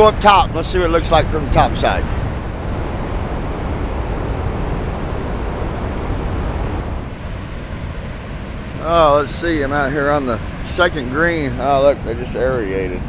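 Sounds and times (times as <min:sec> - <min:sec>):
floodwater rushing: 0:00.0 - 0:12.1
wind on microphone: 0:00.0 - 0:13.0.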